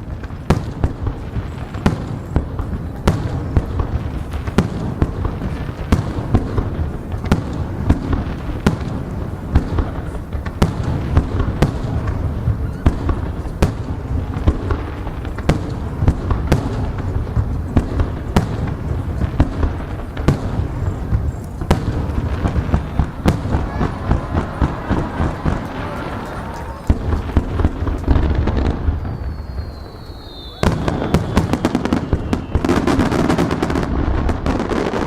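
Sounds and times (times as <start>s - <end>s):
firework shells bursting: 0.0s - 35.0s.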